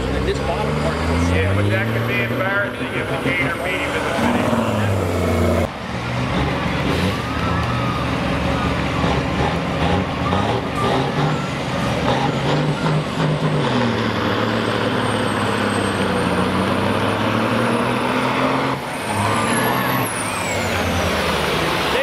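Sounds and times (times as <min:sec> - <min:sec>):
diesel truck engines revving: 0:00.0 - 0:22.0.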